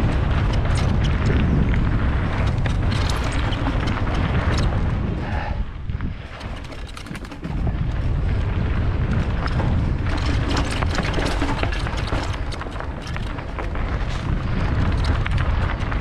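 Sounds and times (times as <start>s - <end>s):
bike tyres clicking and rattling: 0.0s - 16.0s
wind buffeting microphone: 0.0s - 16.0s.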